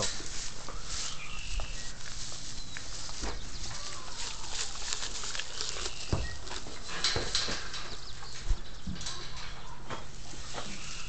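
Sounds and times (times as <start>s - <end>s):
horses munching hay: 0.0s - 11.0s.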